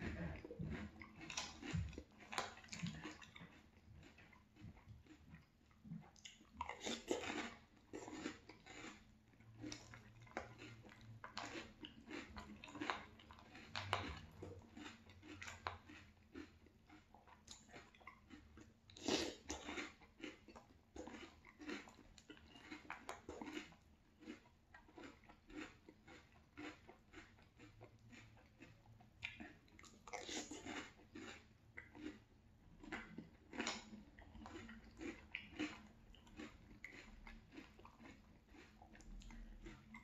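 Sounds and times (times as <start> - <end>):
chewing crunchy cereal: 0.0 - 40.0.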